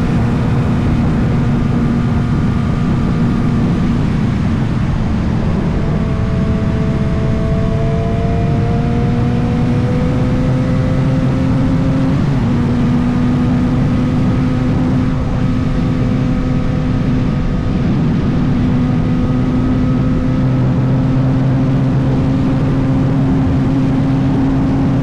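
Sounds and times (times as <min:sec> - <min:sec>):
motorcycle engine cruising: 0:00.0 - 0:25.0
rushing noise: 0:00.0 - 0:25.0.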